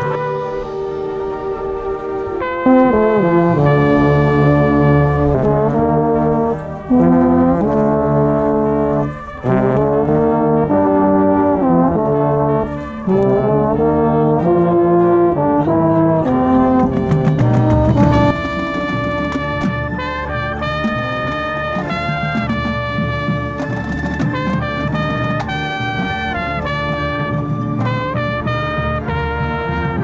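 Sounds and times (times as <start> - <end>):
marching band brass chords: 0.0 - 30.0.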